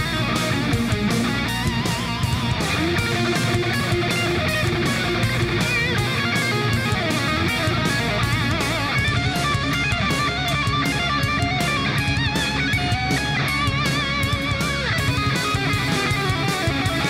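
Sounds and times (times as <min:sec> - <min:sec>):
electric guitars: 0:00.0 - 0:17.0
lead guitar bending pitch: 0:00.0 - 0:17.0
steady drum beat: 0:00.0 - 0:17.0.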